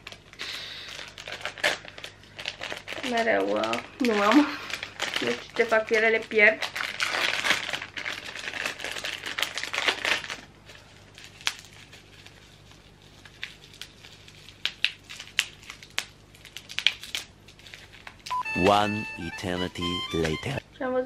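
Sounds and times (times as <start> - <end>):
packaging crinkling: 0.0 - 18.3.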